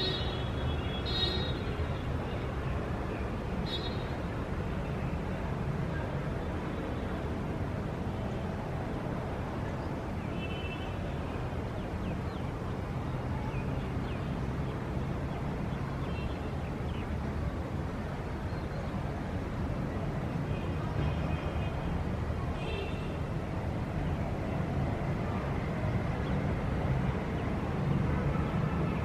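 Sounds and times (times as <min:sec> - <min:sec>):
distant traffic rumble: 0:00.0 - 0:29.0.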